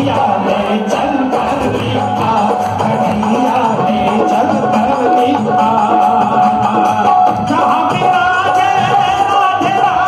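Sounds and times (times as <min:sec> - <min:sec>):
percussion beat: 0:00.0 - 0:10.0
person singing devotional song: 0:00.0 - 0:10.0.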